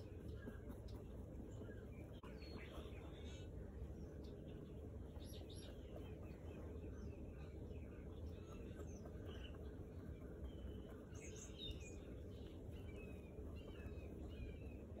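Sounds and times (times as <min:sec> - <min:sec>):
birds chirping: 0:00.0 - 0:15.0
low steady background hum: 0:00.0 - 0:15.0.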